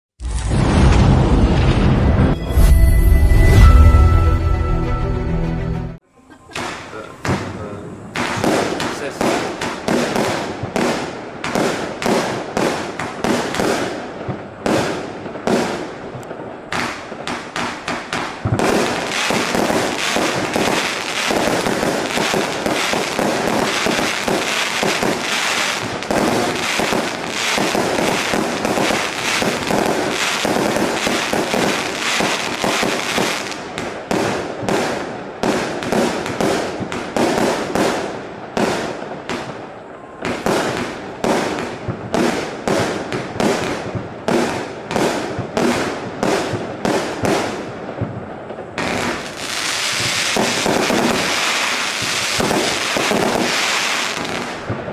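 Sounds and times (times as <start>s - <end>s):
fireworks launching and bursting: 0.2s - 4.4s, 6.0s - 54.9s.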